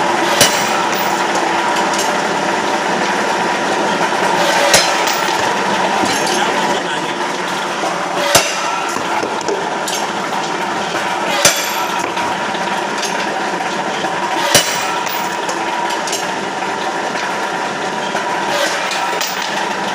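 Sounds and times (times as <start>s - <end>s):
machine running: 0.0s - 19.9s
sharp metallic clanks: 0.2s - 2.3s, 3.9s - 16.4s, 18.0s - 19.8s.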